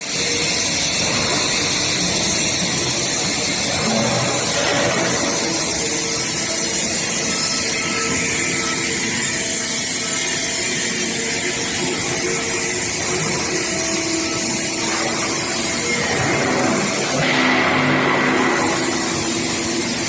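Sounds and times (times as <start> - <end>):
machinery hiss and hum: 0.0 - 20.0.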